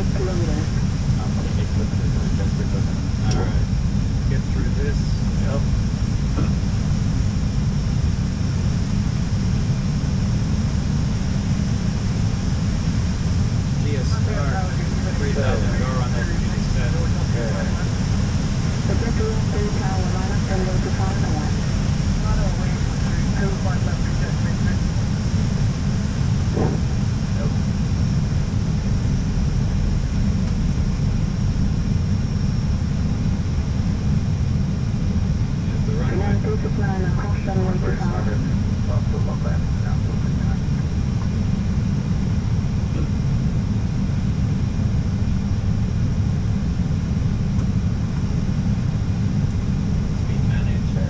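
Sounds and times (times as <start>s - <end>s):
faint high whine: 0.0s - 51.0s
low cockpit rumble: 0.0s - 51.0s.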